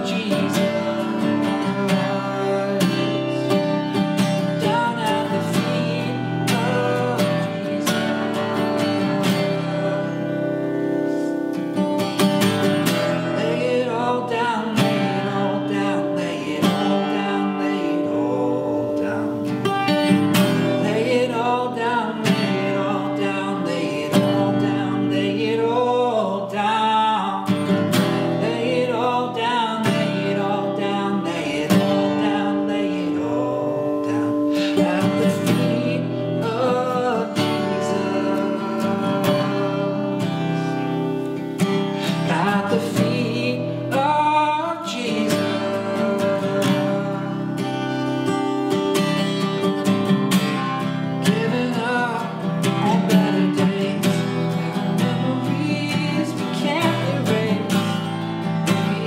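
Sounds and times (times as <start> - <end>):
man singing: 0.0 - 59.0
strummed acoustic guitar: 0.0 - 59.0.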